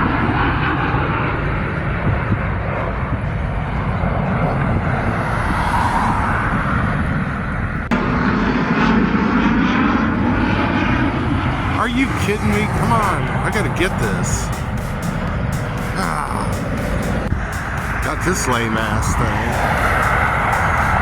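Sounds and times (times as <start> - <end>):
fighter jet engine rumble: 0.0 - 21.0.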